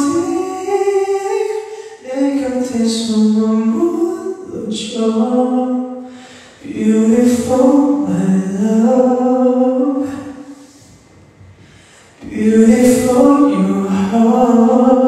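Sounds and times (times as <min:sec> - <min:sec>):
man singing a cappella: 0:00.0 - 0:10.9, 0:12.1 - 0:15.0.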